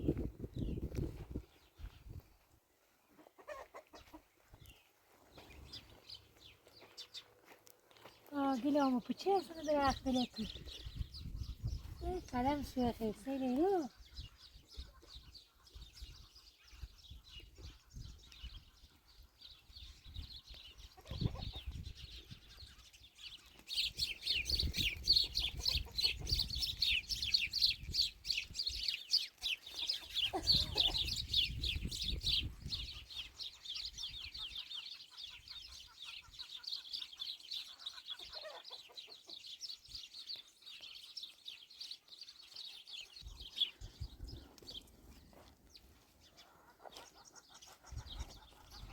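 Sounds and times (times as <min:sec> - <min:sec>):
chickens chirping: 0:00.0 - 0:48.9.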